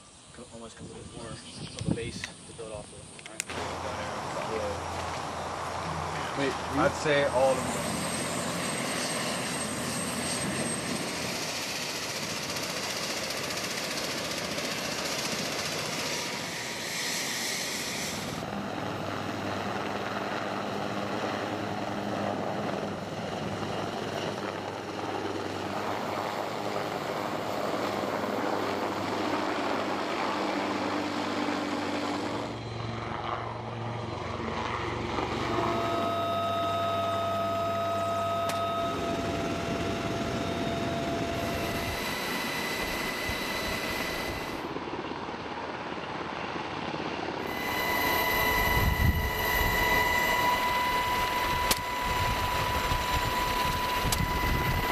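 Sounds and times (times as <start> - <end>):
helicopter rotor and engines: 0.0 - 54.9.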